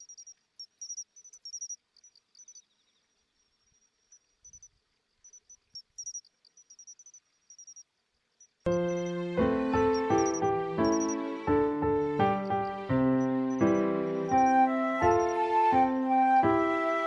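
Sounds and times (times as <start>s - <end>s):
crickets chirping: 0.0s - 16.6s.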